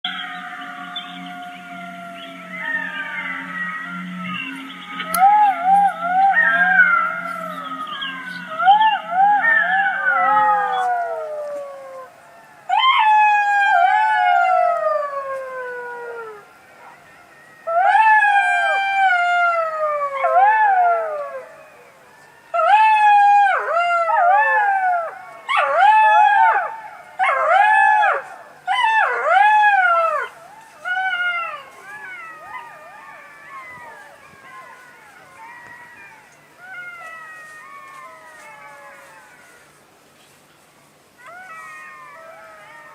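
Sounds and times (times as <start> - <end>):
jackals howling: 0.0 - 40.4, 41.1 - 42.9.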